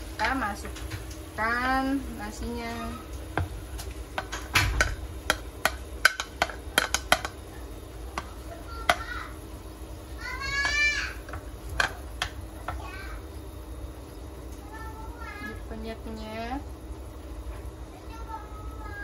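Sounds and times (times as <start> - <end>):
water simmering: 0.0 - 19.0.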